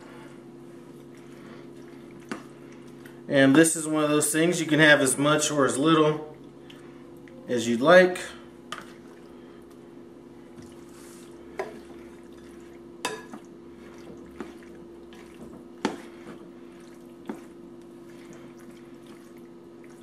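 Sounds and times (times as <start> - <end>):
steady low hum: 0.0 - 20.0
wet stirring of pasta: 0.7 - 7.4, 8.6 - 20.0.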